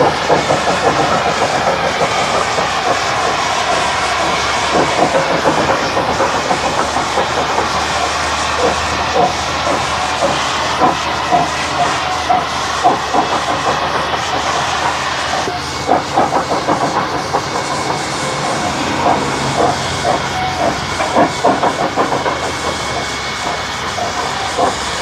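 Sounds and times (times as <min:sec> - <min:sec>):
steam hiss: 0:00.0 - 0:25.0
steam locomotive exhaust beats: 0:00.0 - 0:25.0.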